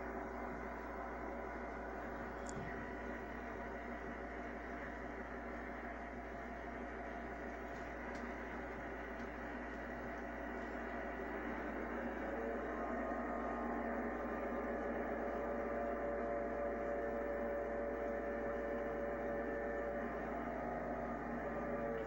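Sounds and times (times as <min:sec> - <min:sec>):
diesel locomotive through tv speaker: 0:00.0 - 0:22.0
faint steady tones: 0:00.0 - 0:22.0
low electrical mains hum: 0:00.0 - 0:22.0.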